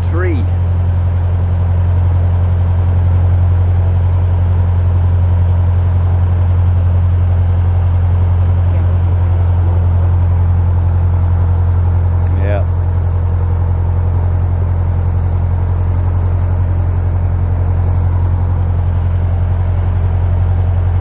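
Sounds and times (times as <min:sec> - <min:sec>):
boat diesel engine droning: 0:00.0 - 0:21.0.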